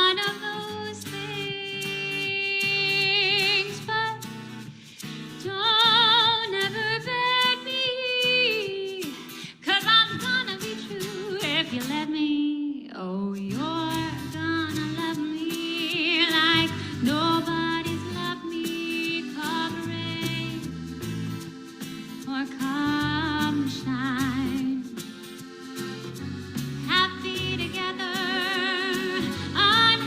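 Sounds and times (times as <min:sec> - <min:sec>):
woman singing a slow ballad: 0:00.0 - 0:04.4, 0:05.4 - 0:20.6, 0:22.3 - 0:25.0, 0:26.9 - 0:30.0
instrumental accompaniment: 0:00.0 - 0:12.2, 0:13.5 - 0:30.0.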